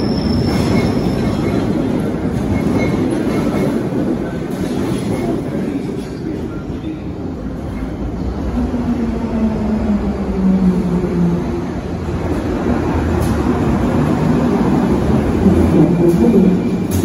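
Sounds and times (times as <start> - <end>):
train rumbling through tunnel: 0.0 - 17.0.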